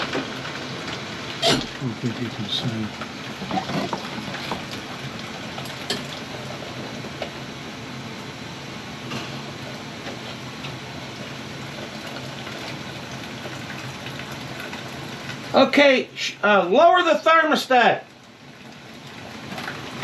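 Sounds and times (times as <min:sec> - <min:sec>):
boiler rushing watery noise: 0:00.0 - 0:20.0.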